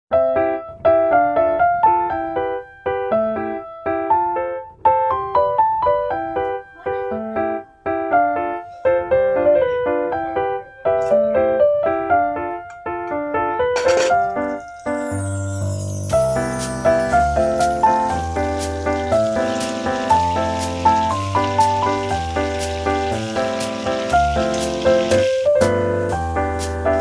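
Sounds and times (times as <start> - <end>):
repeating piano melody: 0.1 - 27.0.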